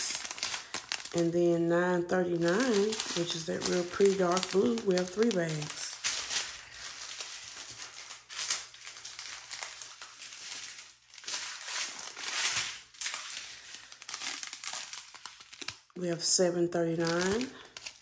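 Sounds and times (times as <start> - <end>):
plastic bags crinkling: 0.0 - 18.0.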